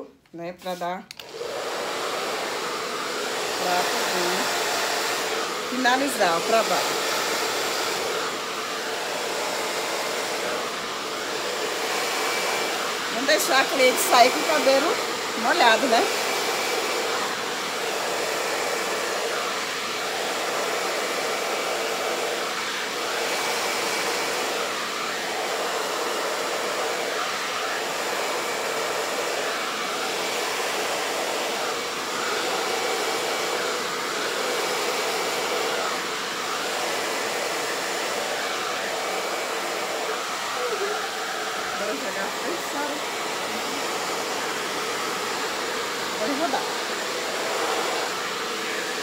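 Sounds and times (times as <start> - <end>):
hair dryer blowing: 0.0 - 49.0.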